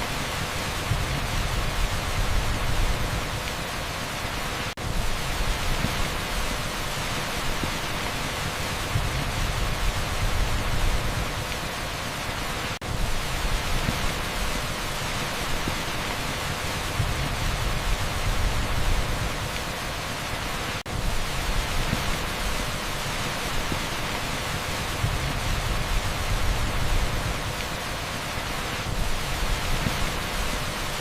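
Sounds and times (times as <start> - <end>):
torrential rain on asphalt: 0.0 - 31.0.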